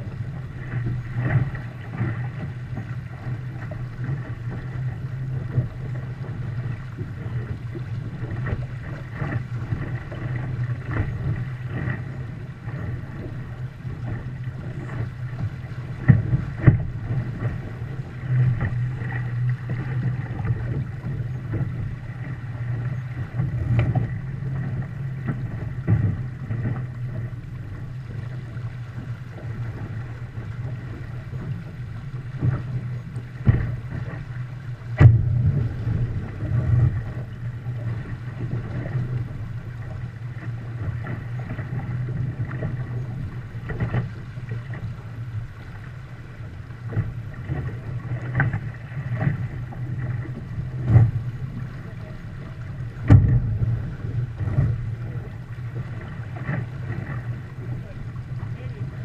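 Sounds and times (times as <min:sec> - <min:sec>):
hull knocking on waves: 0:00.0 - 0:59.0
water rushing past boat: 0:00.0 - 0:59.0
wind rumble on microphone: 0:00.0 - 0:59.0.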